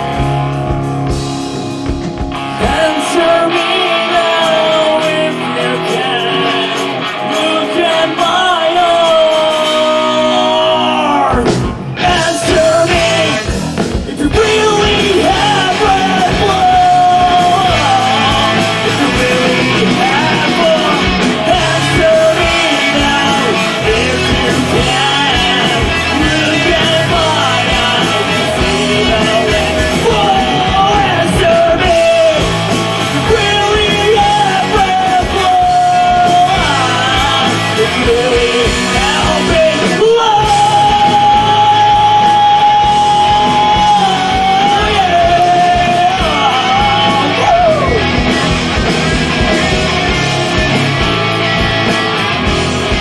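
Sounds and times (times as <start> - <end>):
drums: 0.0 - 53.0
guitars: 0.0 - 53.0
singer belting high notes: 1.5 - 53.0.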